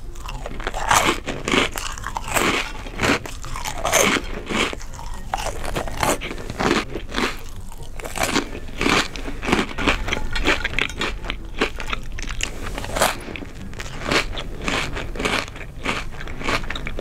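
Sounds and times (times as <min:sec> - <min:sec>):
loud crunchy chewing: 0:00.0 - 0:17.0.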